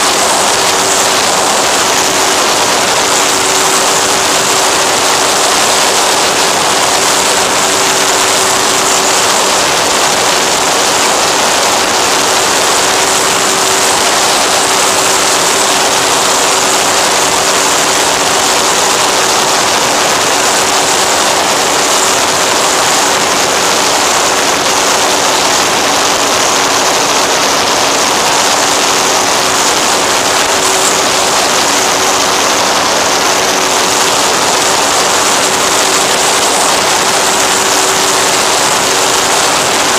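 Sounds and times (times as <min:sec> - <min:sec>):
air rush and propeller noise: 0:00.0 - 0:39.9
motor hum: 0:00.0 - 0:39.9.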